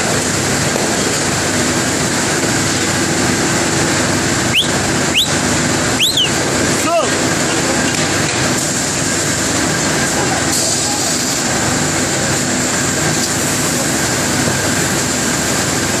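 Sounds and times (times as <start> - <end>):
constant high whine: 0.0 - 16.0
glass furnaces roaring: 0.0 - 16.0
ventilation ducts: 0.0 - 16.0.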